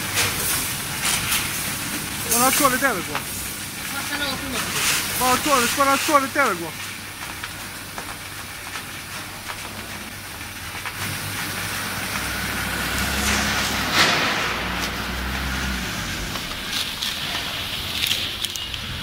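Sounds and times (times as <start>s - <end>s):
packaging machine hum and hiss: 0.0s - 19.0s.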